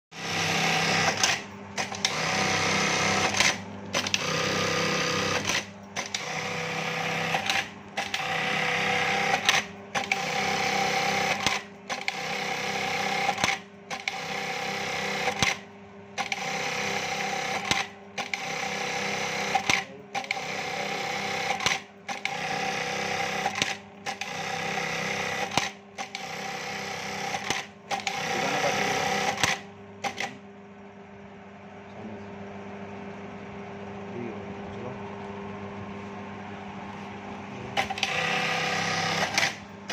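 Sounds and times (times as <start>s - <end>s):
sewing machine stitching: 0.1s - 30.4s, 37.8s - 39.9s
steady motor hum: 0.1s - 39.9s.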